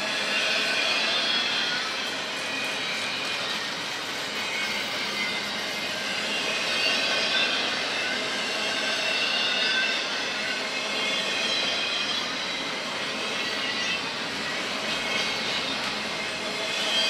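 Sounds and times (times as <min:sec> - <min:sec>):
freight train rolling past: 0:00.0 - 0:17.0
steel wheels rattling on rail: 0:00.0 - 0:17.0.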